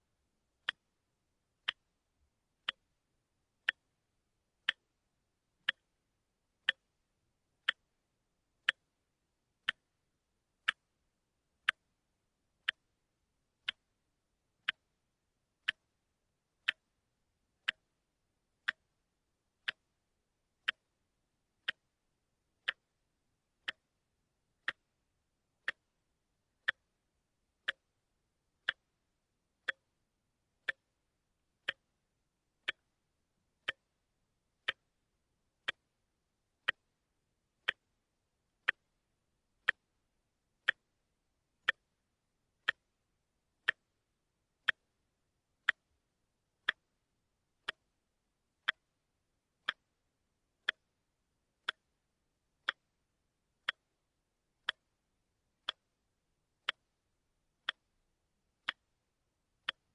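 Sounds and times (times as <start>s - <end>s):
watch ticking: 0.5s - 46.0s, 46.6s - 50.0s, 50.6s - 59.9s.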